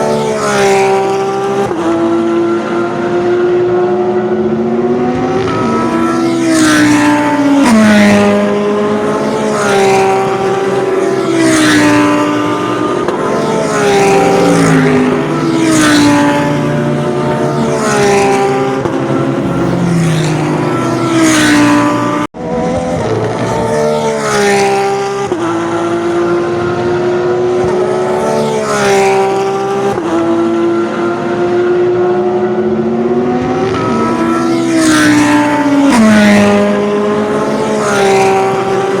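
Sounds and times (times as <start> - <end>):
race car engines at speed: 0.0 - 39.0.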